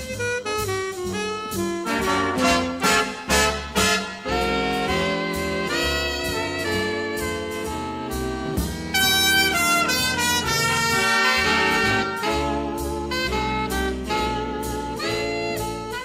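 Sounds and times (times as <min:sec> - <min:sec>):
horn-led jazz from cassette: 0:00.0 - 0:16.0.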